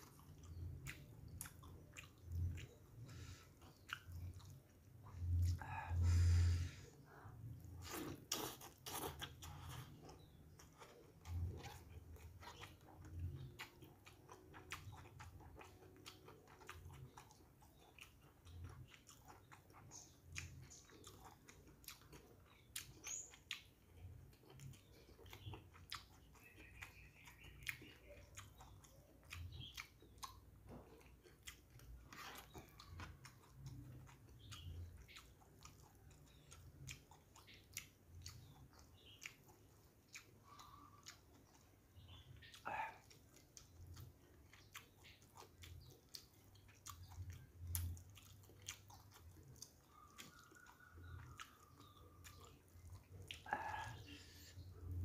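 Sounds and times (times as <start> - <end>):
person chewing with wet smacks: 0.0 - 55.0.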